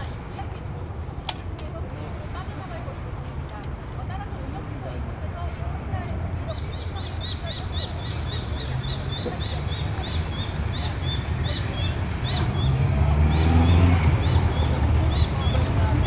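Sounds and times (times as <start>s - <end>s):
motorcycles and cars passing slowly: 0.0s - 16.0s.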